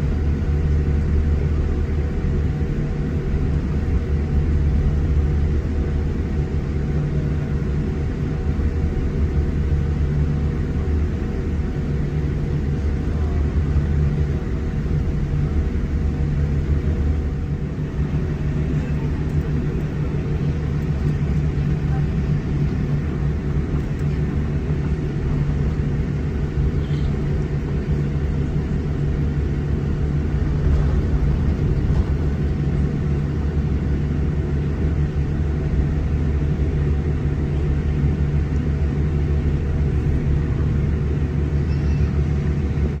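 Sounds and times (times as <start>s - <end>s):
airplane cabin rumble and hum: 0.0s - 43.0s.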